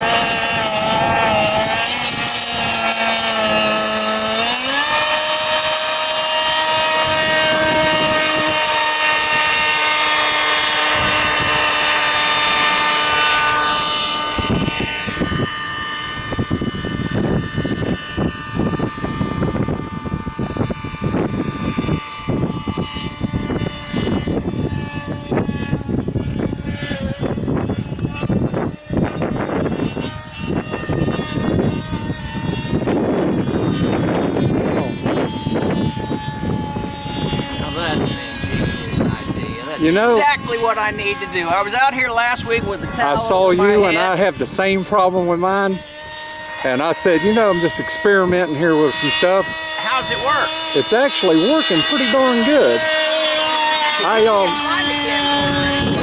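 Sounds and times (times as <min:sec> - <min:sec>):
model jet engine whining: 0:00.0 - 0:56.0.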